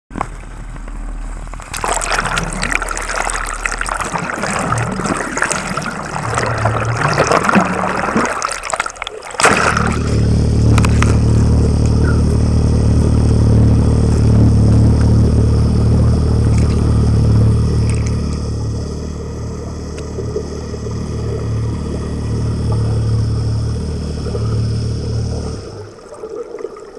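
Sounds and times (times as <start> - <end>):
outboard motor droning underwater: 0.1 - 26.9
water splashing and rushing: 0.1 - 26.9.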